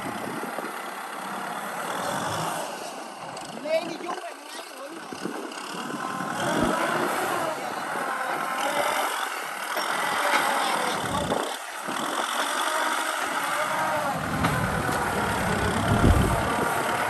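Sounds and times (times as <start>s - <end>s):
tractor diesel engine under load: 0.0s - 3.5s, 5.1s - 17.0s.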